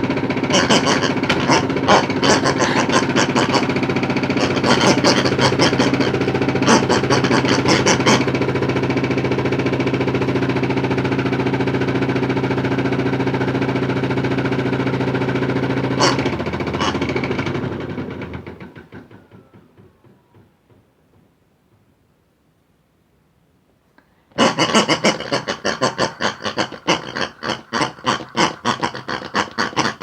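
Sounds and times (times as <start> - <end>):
toy washing machine motor hum: 0.0 - 21.0, 24.4 - 30.0.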